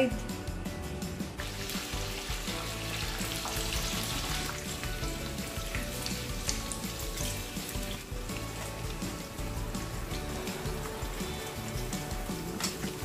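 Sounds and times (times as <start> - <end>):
background music: 0.0 - 13.0
fish deep-frying in hot oil: 1.4 - 13.0.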